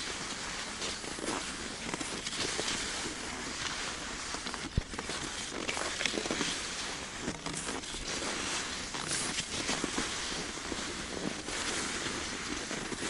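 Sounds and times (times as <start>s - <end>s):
skis gliding over snow: 0.0s - 13.0s.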